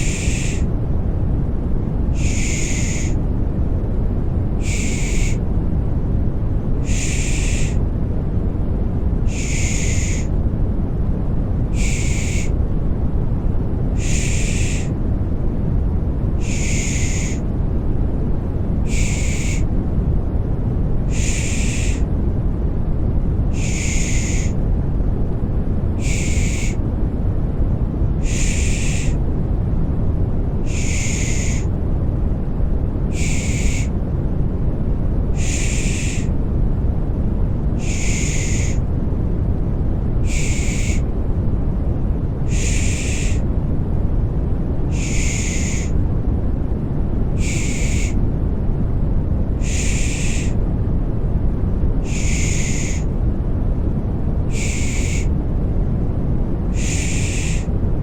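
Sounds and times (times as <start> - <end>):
deep white-noise rumble: 0.0 - 58.0.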